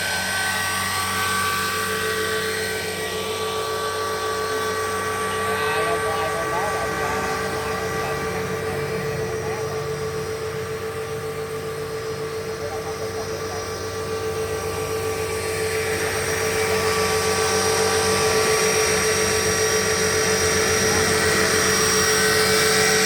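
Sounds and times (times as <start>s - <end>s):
rc helicopter motor whine: 0.0s - 23.0s
rotor hum with flutter: 0.0s - 23.0s.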